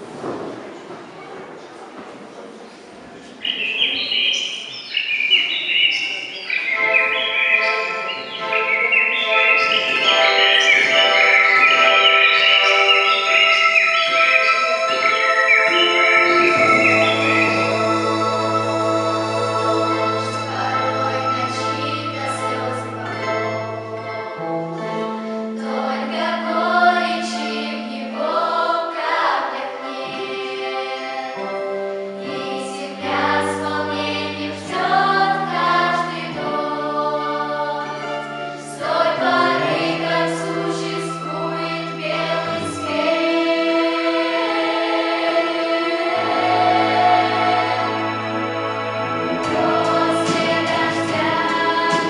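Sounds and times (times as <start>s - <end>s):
vocal ensemble singing: 4.6s - 31.5s, 32.2s - 52.0s
instrumental accompaniment: 6.5s - 52.0s.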